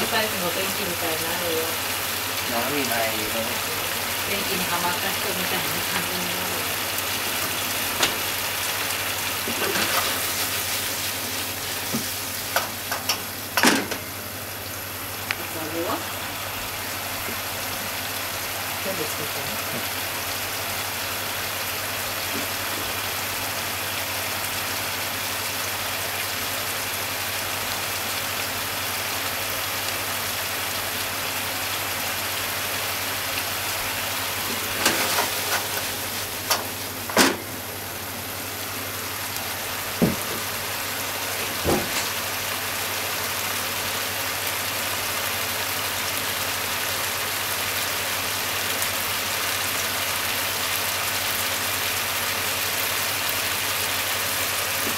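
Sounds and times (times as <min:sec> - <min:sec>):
food sizzling and bubbling in pan: 0:00.0 - 0:54.9.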